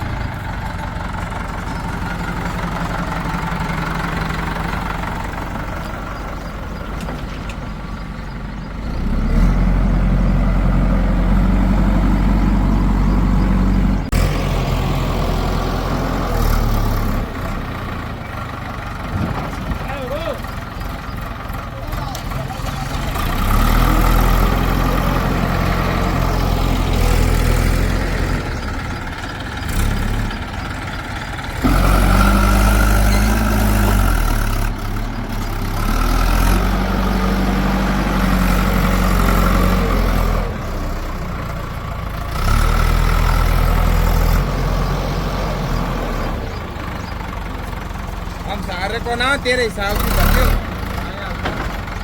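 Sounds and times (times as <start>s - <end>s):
backhoe diesel engine working: 0.0s - 52.0s.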